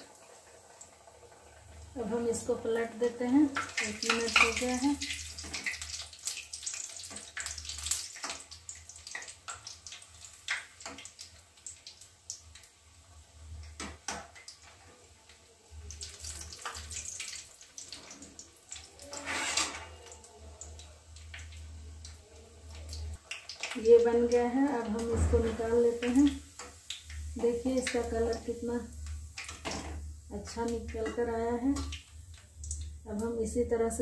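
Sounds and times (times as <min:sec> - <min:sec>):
hot oil sizzling and crackling: 0:00.0 - 0:34.0.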